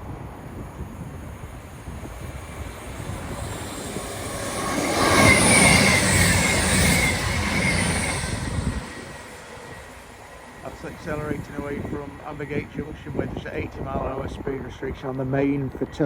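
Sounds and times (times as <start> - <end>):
high whine: 0.0 - 14.9
train wheels rushing on rail: 0.0 - 15.3.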